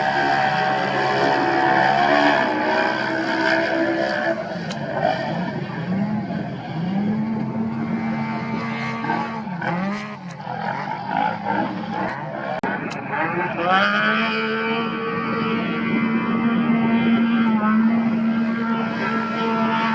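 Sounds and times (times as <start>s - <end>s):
race vehicle engine running hard: 0.0s - 19.9s.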